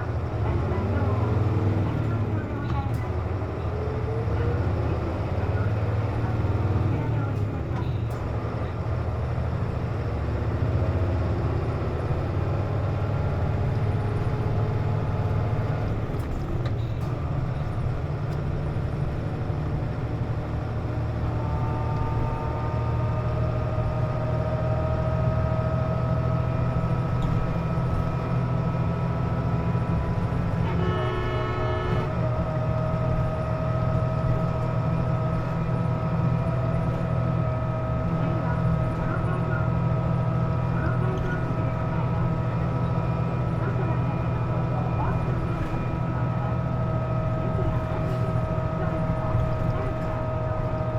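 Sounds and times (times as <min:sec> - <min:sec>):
bus diesel engine rumble: 0:00.0 - 0:50.9.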